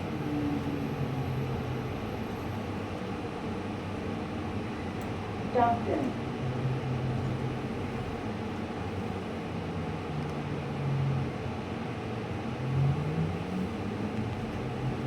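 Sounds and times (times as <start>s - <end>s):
trolleybus motor hum: 0.0s - 15.0s.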